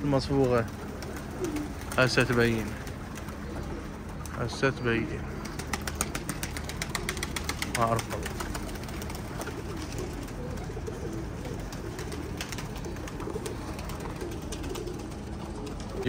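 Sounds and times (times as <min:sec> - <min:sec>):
pigeon wings flapping: 0:00.0 - 0:16.0
pigeons cooing: 0:00.0 - 0:16.0.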